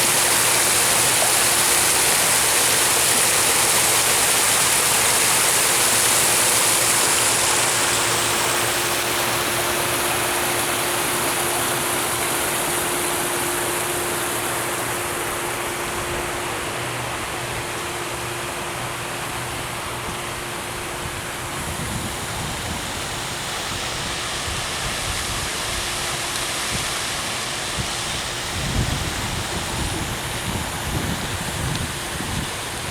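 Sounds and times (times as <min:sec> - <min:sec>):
waterfall roaring: 0:00.0 - 0:32.9.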